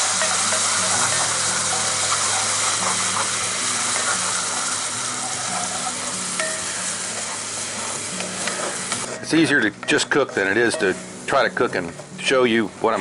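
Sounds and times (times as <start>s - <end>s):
gravy sizzling in skillet: 0.0s - 13.0s.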